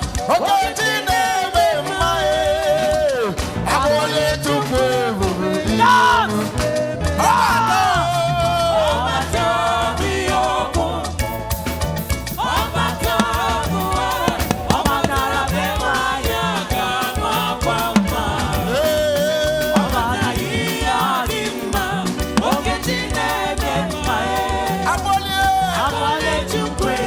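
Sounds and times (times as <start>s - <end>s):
band with drum beat and bass: 0.0s - 27.0s
voices singing: 0.0s - 27.0s.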